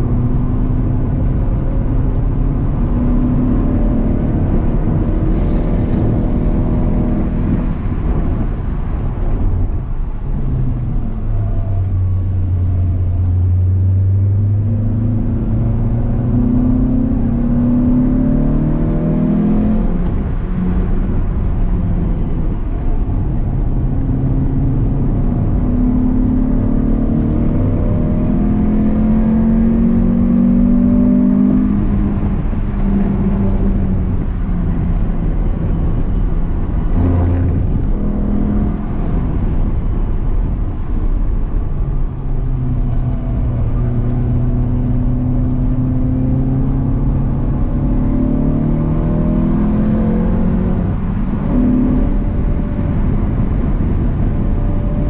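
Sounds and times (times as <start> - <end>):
car engine accelerating: 0.0 - 55.0
tyre and road rumble: 0.0 - 55.0.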